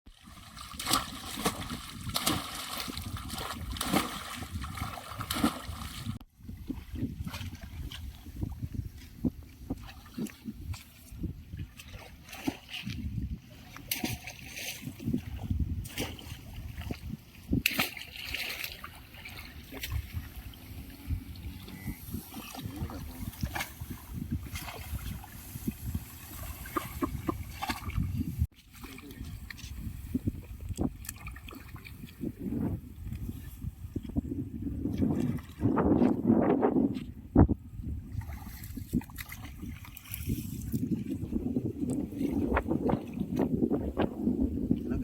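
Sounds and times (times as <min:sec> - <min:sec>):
water splashing: 0:00.1 - 0:29.6, 0:30.6 - 0:32.3, 0:38.1 - 0:44.1.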